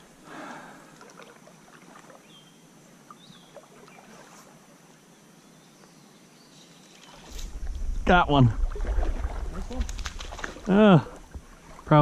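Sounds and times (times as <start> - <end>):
faint water sounds: 0.0 - 12.0.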